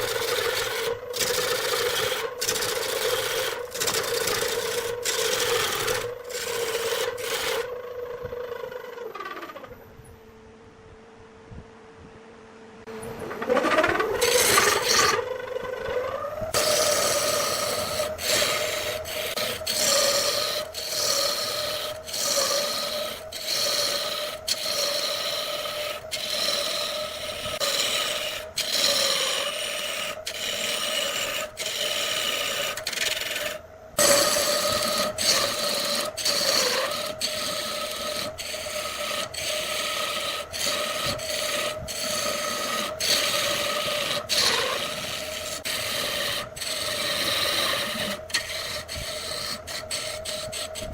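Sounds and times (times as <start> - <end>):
tool scraping spinning wood: 0.0 - 10.0, 12.8 - 50.9
wood lathe whine: 0.0 - 10.5, 12.8 - 50.9.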